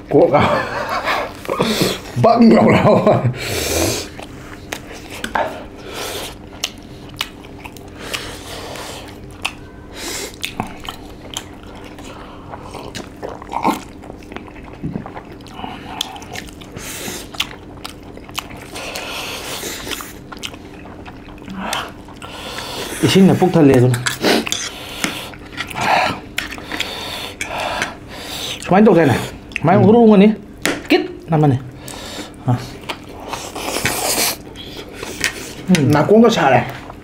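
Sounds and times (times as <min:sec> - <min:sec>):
noodles being slurped and chewed: 0:03.8 - 0:29.7, 0:31.8 - 0:37.0.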